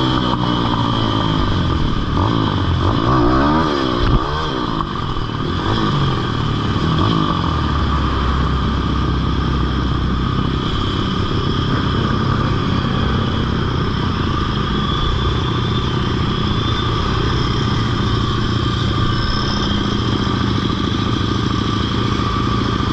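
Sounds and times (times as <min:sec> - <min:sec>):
motorbike engine running: 0:00.0 - 0:22.9.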